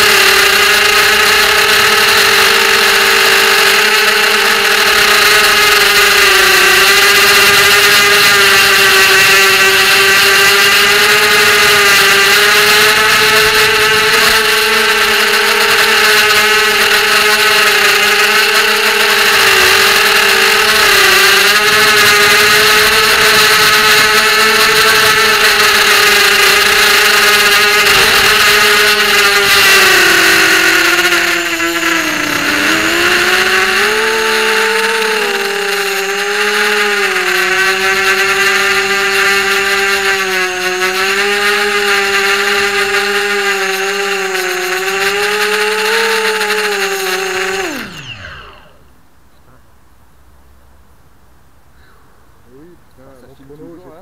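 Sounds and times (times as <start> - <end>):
drone motors whining: 0.0 - 49.6.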